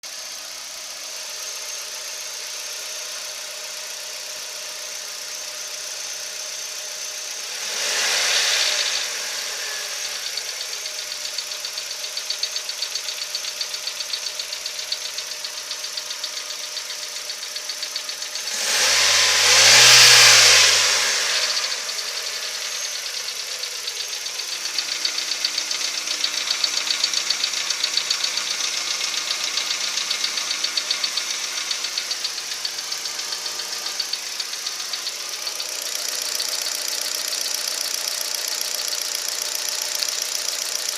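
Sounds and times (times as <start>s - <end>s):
car engine idling with ticking: 0.0s - 18.8s, 21.6s - 40.9s
engine revving: 0.0s - 40.9s.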